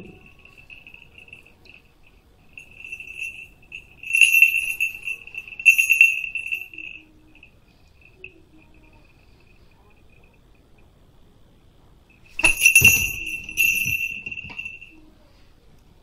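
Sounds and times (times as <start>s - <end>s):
small bell jingling: 0.0s - 10.9s, 12.1s - 15.1s.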